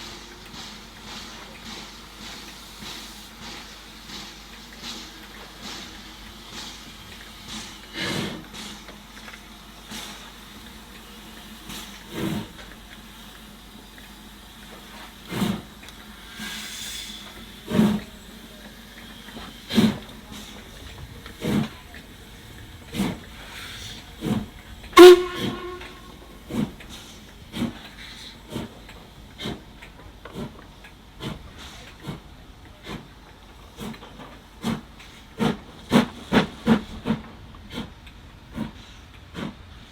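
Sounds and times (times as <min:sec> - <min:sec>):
steam hissing: 0:00.0 - 0:39.9
steam locomotive chuffing: 0:00.0 - 0:39.9.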